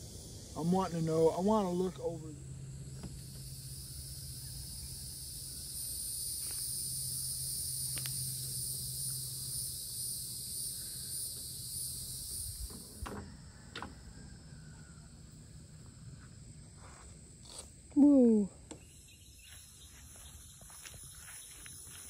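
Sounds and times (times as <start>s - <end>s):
low steady hum: 0.0s - 21.1s
insects calling in chorus: 0.0s - 22.0s.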